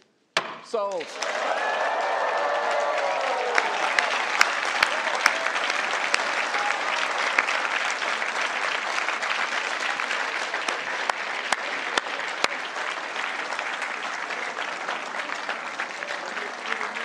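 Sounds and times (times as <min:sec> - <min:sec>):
large crowd applauding: 0:00.9 - 0:17.0.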